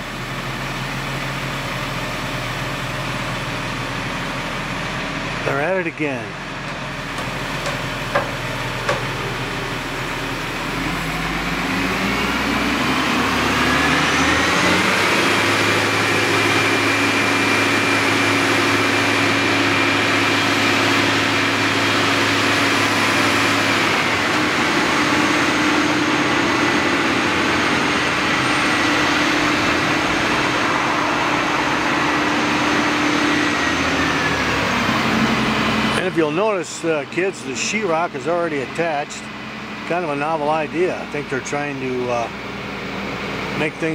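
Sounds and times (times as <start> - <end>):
crane engine revving: 0.0 - 43.9
hydraulic whine: 0.0 - 43.9.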